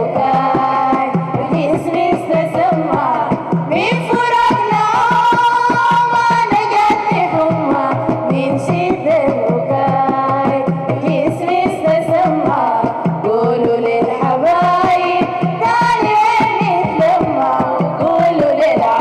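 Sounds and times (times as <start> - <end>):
person singing: 0.0 - 19.0
steady drum beat: 0.0 - 19.0.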